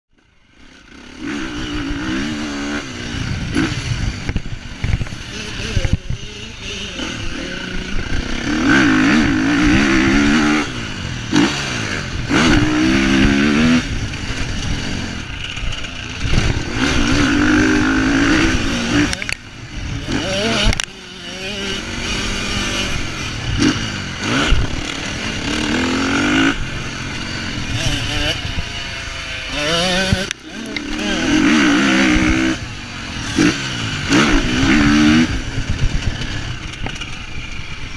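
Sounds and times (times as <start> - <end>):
motocross bike engine revving: 0.1 - 37.9.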